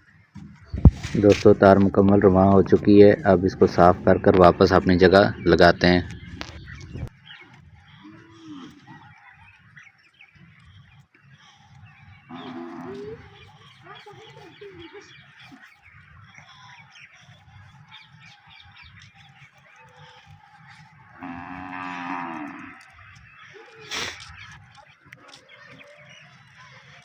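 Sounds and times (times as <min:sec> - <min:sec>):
small bird chirps: 0:02.3 - 0:27.0.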